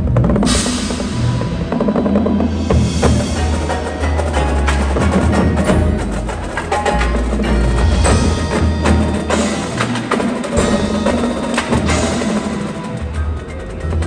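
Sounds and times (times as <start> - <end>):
marching drums: 0.0 - 14.0
mallet keyboards: 1.2 - 14.0.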